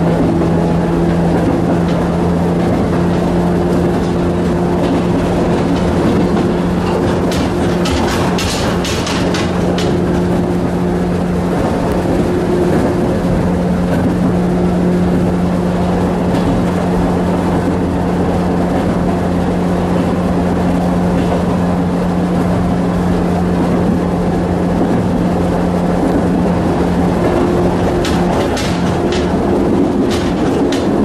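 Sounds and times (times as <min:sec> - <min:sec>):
constant low hum: 0:00.0 - 0:31.0
train wheels rumbling on rail: 0:00.0 - 0:31.0.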